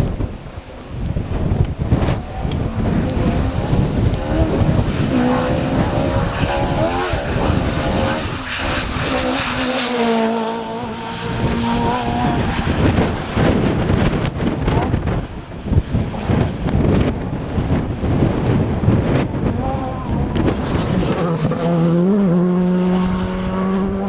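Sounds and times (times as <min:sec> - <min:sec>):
wind buffeting microphone: 0:00.0 - 0:24.0
rally car engine revving: 0:01.6 - 0:24.0.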